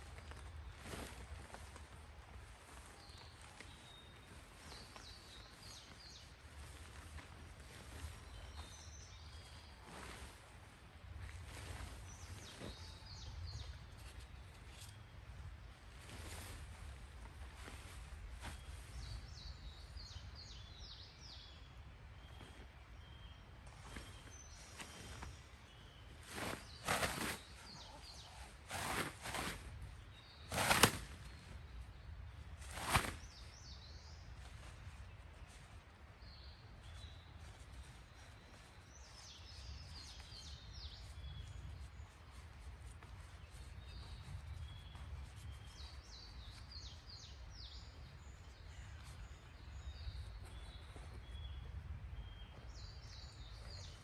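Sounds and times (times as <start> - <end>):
small birds chirping: 2.6 - 54.0.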